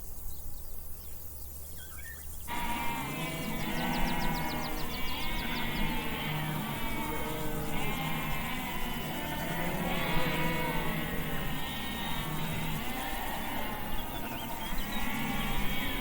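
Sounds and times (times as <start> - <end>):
steady low hum: 2.4 - 16.0
sheep bleating: 2.5 - 16.0.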